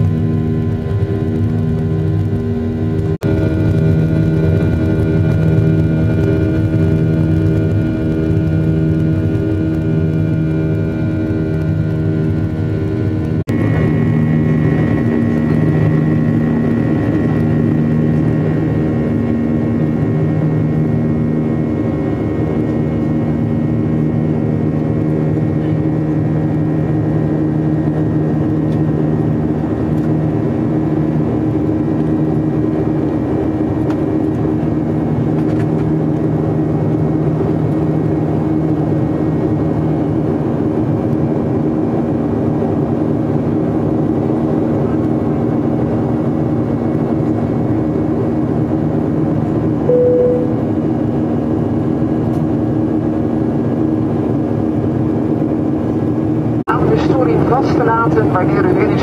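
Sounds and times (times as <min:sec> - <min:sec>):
jet engines humming: 0:00.0 - 0:38.6, 0:48.2 - 0:59.0.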